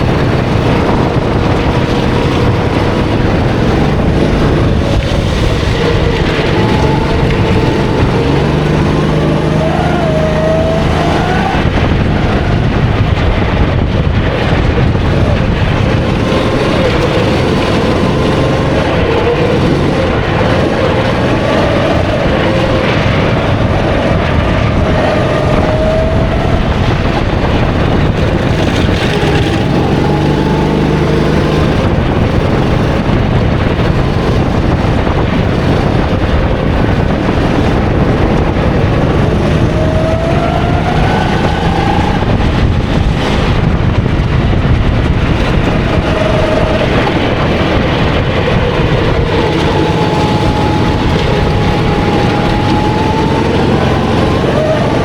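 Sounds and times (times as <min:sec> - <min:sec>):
kart engine revving: 0:00.0 - 0:55.0
steady noisy rush: 0:00.0 - 0:55.0.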